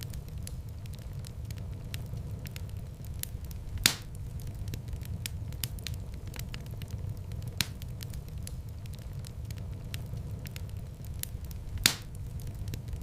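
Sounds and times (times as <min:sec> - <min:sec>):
fire popping: 0:00.0 - 0:13.0
flames rumbling: 0:00.0 - 0:13.0
wood fire crackling: 0:00.0 - 0:13.0.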